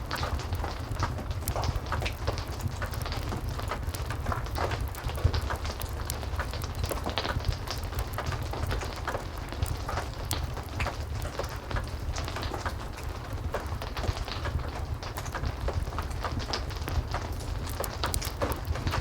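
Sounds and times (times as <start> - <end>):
heavy rain: 0.0 - 19.0
fireplace crackling: 0.1 - 19.0.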